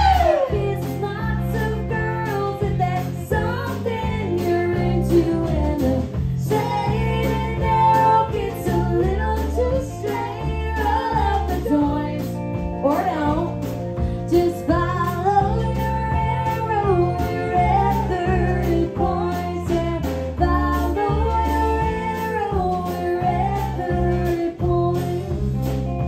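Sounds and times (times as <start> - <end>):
woman singing into microphone: 0.0 - 25.6
live band with guitar: 0.0 - 26.0.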